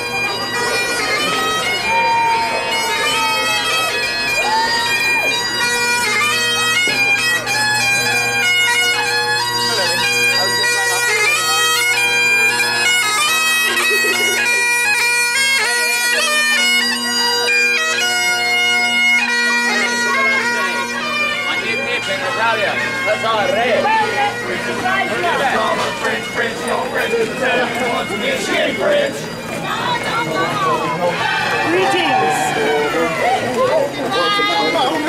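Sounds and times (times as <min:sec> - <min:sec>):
bagpipes playing a march: 0:00.0 - 0:35.0.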